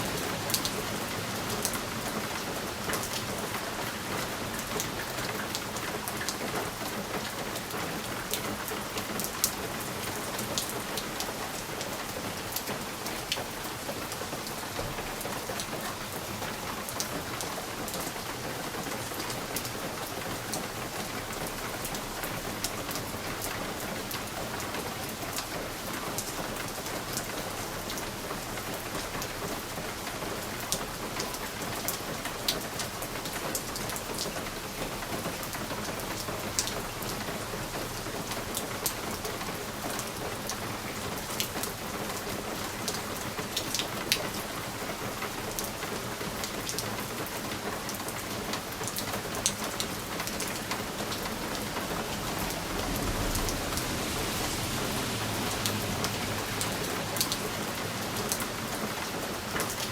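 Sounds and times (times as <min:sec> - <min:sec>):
rain hissing on a window: 0:00.0 - 0:59.9.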